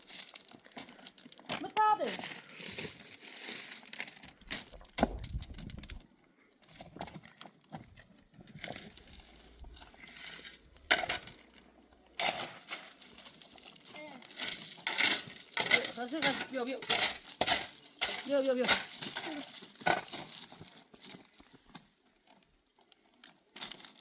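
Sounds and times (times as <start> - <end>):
rustling and crinkling: 0.0 - 24.0.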